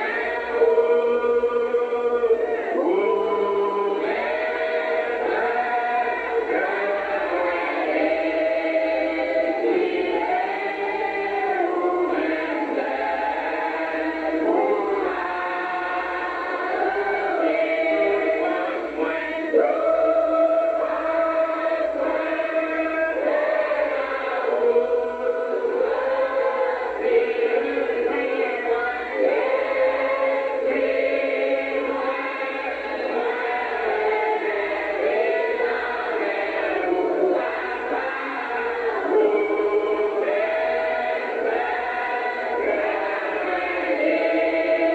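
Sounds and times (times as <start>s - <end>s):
group singing a hymn: 0.0s - 44.9s.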